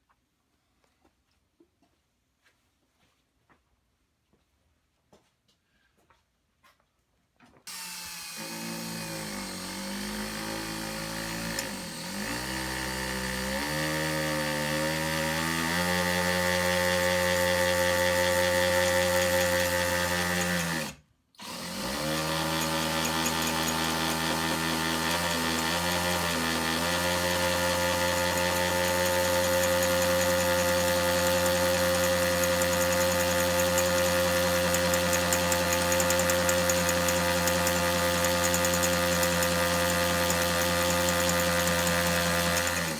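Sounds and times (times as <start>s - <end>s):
electric hand drill running: 7.7s - 42.9s.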